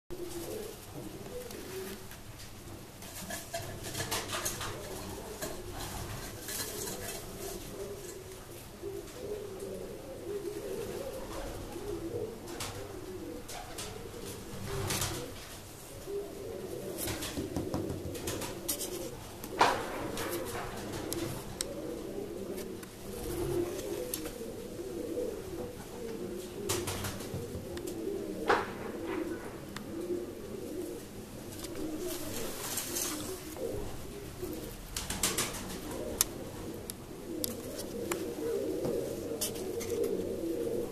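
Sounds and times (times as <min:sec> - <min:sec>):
pigeons cooing: 0:00.1 - 0:40.9.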